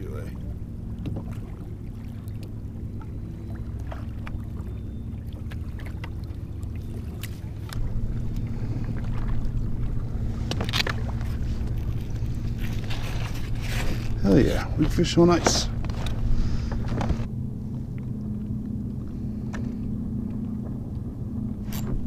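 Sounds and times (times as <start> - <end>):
choppy water: 0.0 - 22.0
wind: 0.0 - 22.0.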